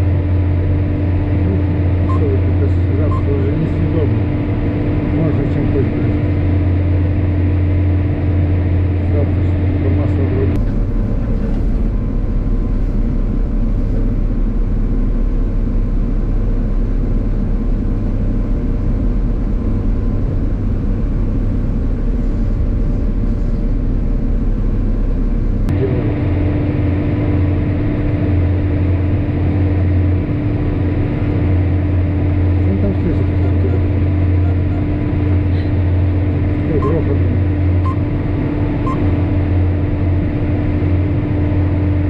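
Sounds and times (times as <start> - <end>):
diesel machinery engine drone: 0.0 - 42.0.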